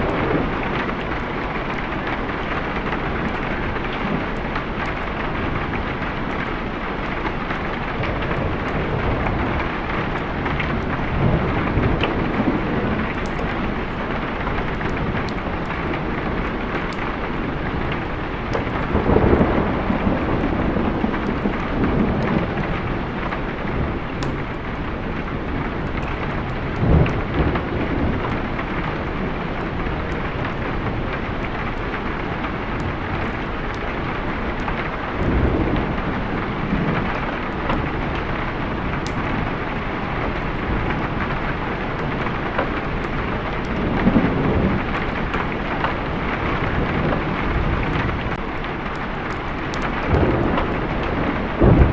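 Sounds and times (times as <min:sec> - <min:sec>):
heavy rain: 0:00.0 - 0:51.9
thunder rumbling: 0:00.0 - 0:51.9.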